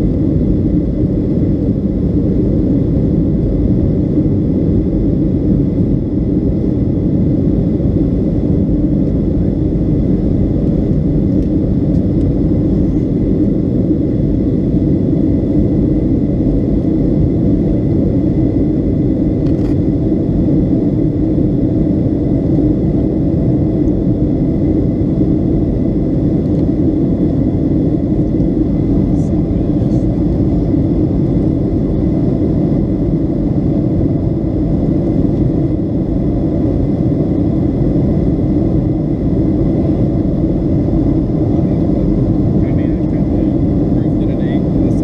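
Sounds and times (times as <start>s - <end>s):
airplane cabin engine roar: 0.0s - 45.0s.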